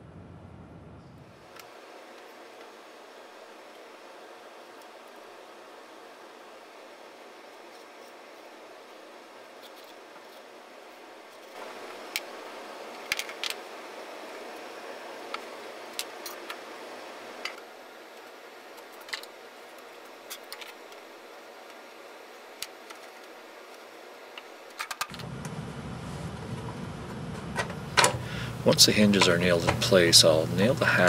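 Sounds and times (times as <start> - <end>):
low steady room noise: 0.0 - 31.0
steady background hiss: 0.0 - 31.0.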